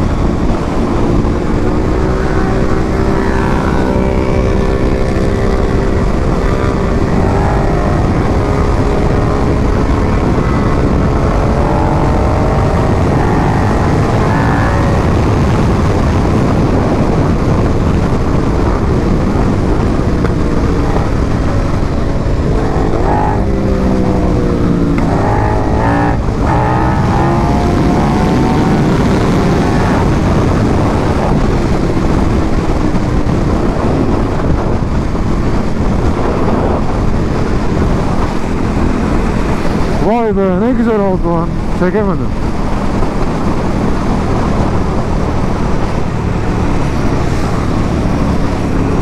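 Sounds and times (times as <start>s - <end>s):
motorcycle engine revving: 0.0s - 49.0s
wind noise rushing: 0.0s - 49.0s.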